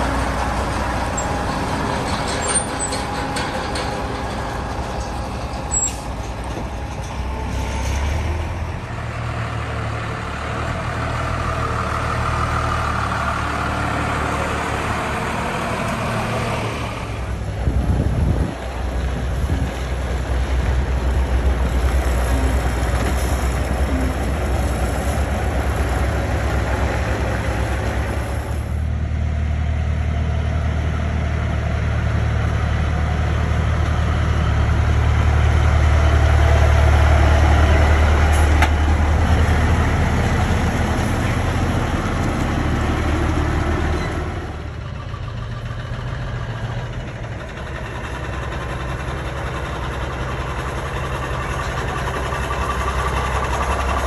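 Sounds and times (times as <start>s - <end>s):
heavy truck engine running: 0.0s - 54.0s.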